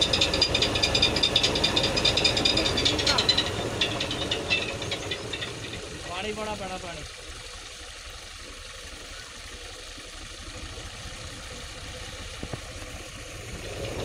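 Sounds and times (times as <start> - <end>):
diesel engine running: 0.0 - 14.0
water pump running: 0.0 - 14.0.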